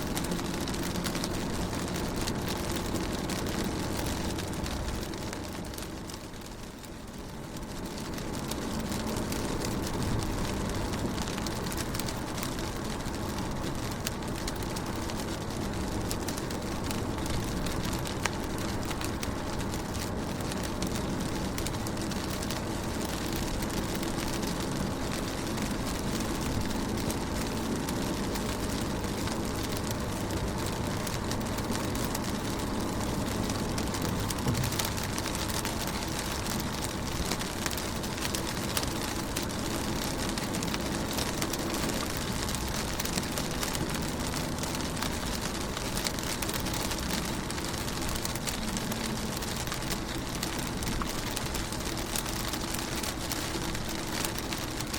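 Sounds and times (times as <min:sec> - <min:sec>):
rain pattering on car window: 0:00.0 - 0:54.9.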